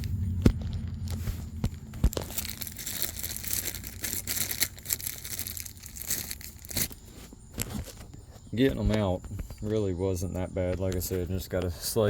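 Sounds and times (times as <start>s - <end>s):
crackly rustling and scraping: 0.0s - 12.0s.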